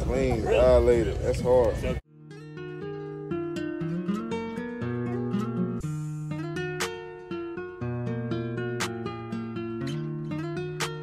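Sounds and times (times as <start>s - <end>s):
plucked guitar music: 0.1s - 11.0s.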